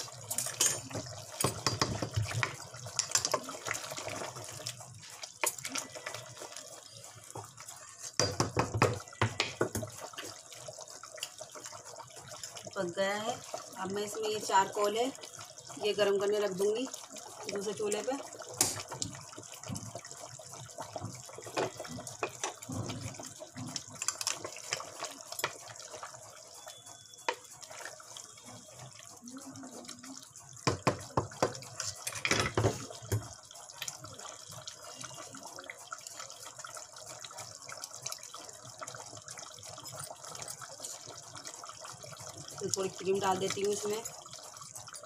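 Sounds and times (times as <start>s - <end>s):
curry bubbling and popping: 0.0s - 45.0s.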